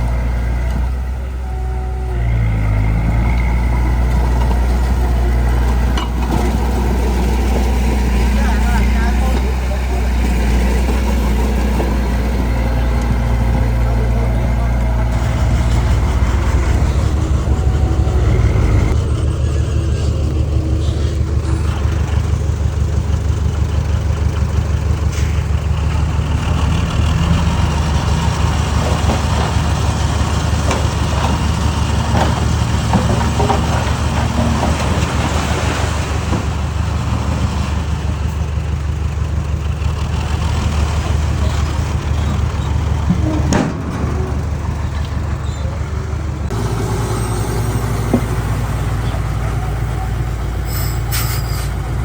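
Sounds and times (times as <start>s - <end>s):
diesel engine running: 0.0s - 52.0s
machinery clatter and rattling: 2.3s - 52.0s.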